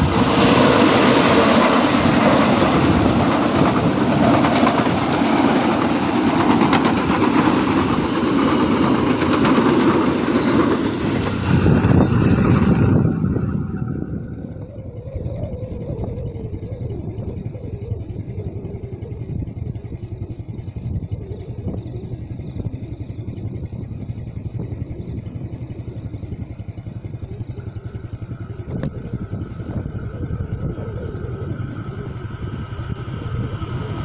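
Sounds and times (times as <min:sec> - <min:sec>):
diesel locomotive engine rumbling: 0:00.0 - 0:34.0.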